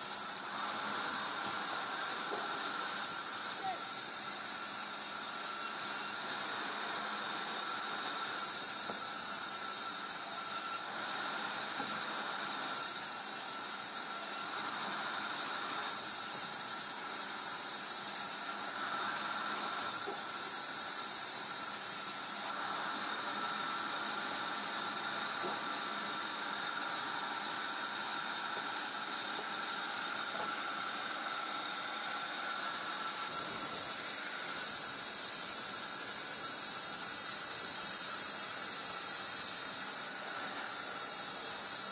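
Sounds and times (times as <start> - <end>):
saw cutting hiss: 0.0 - 6.5, 7.1 - 10.9, 12.7 - 14.5, 15.8 - 19.0, 19.6 - 23.5, 26.4 - 41.9
saw whining: 0.0 - 41.9.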